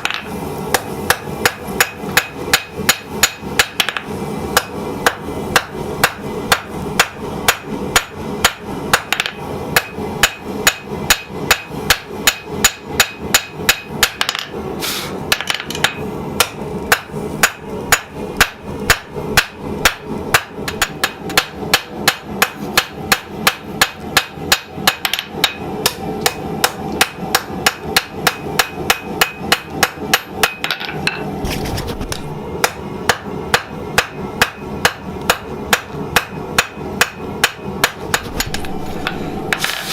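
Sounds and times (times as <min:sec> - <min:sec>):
hammer striking steel on anvil: 0:00.0 - 0:14.6, 0:15.3 - 0:31.3, 0:32.6 - 0:39.8.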